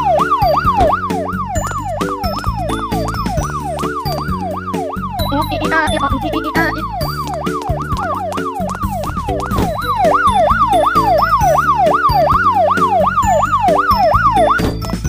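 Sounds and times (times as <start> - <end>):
background music: 0.0 - 15.0
police siren wailing: 0.0 - 15.0.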